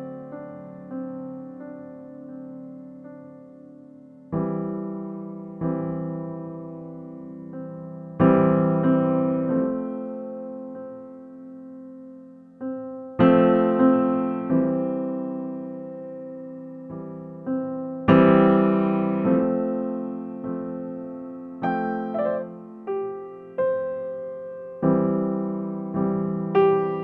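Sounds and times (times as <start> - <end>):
slow piano notes and chords: 0.0 - 27.0.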